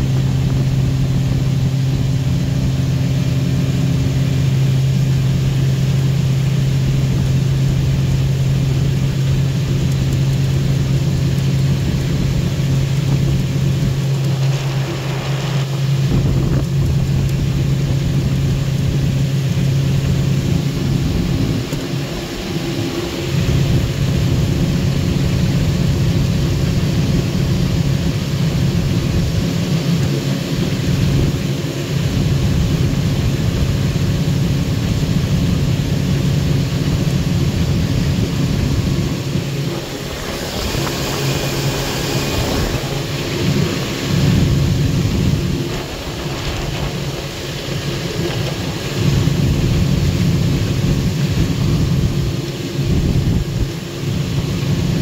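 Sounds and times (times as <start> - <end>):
outboard motor running: 0.0 - 55.0
water rushing: 0.0 - 55.0
wind rumbling on microphone: 0.0 - 55.0.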